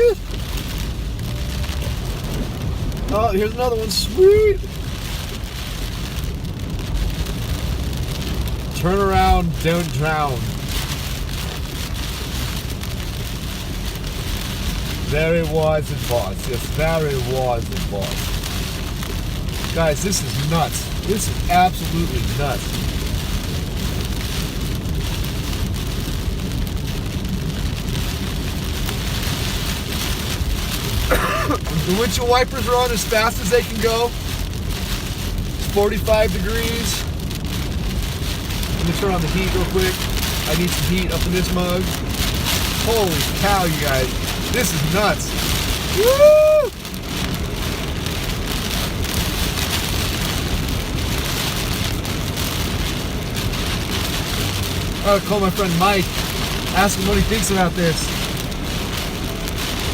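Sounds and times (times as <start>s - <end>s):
heavy rain pelting a car: 0.0s - 59.9s
low road rumble: 0.0s - 59.9s
tyres on a flooded road: 0.0s - 59.9s
windshield wipers sweeping: 0.0s - 59.9s.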